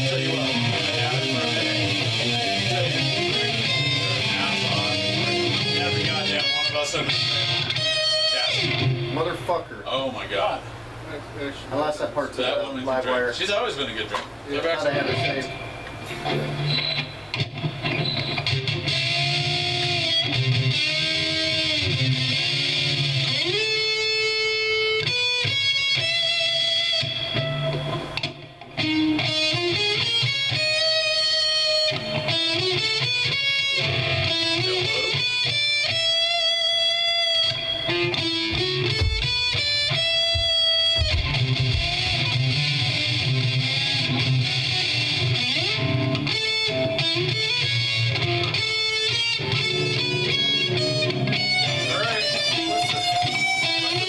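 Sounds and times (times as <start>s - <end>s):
electric guitar through amplifier: 0.0s - 54.0s.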